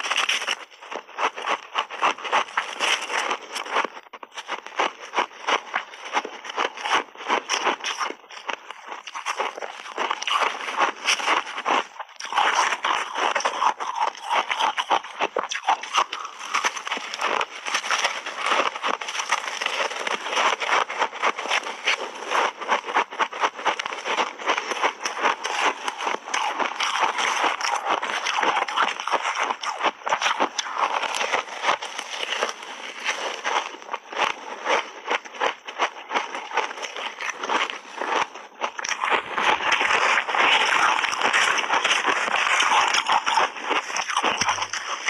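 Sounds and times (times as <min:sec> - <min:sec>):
ice crunching between teeth: 0:00.0 - 0:45.0.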